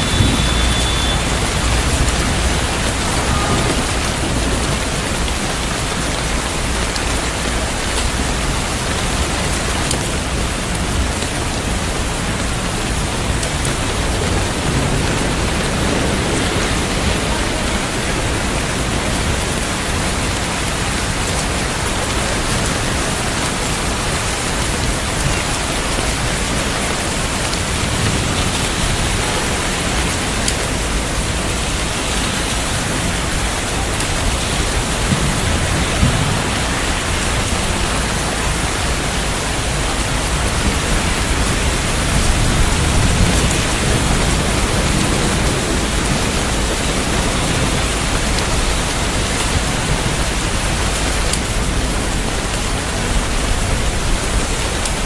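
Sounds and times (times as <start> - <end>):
low thunder rumbling: 0.0 - 55.0
steady rain falling: 0.0 - 55.0.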